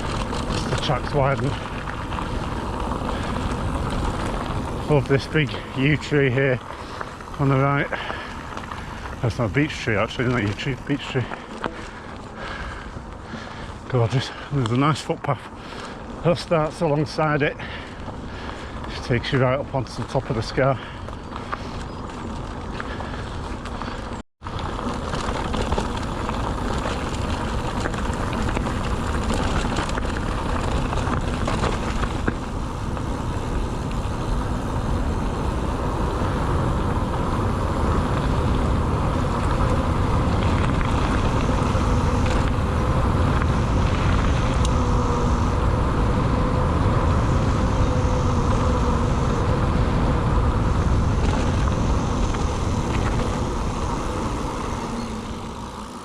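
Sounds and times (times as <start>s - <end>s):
wind buffeting microphone: 0.0s - 14.8s, 15.5s - 56.0s
bike tyres rolling on ground: 0.0s - 56.0s.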